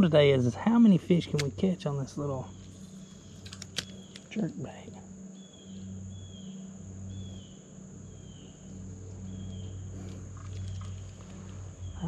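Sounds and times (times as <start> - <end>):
insects droning: 0.0 - 12.0
low hum: 0.0 - 12.0.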